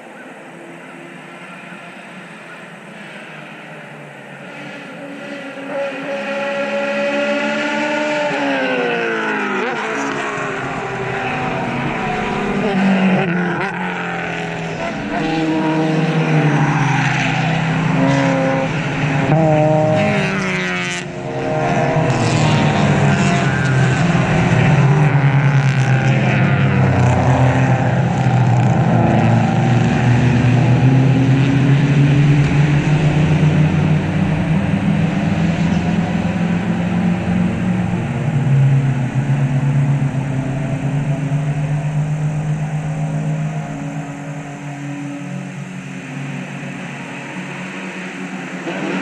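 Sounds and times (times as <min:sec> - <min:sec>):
race cars passing at high revs: 0:00.0 - 0:49.0.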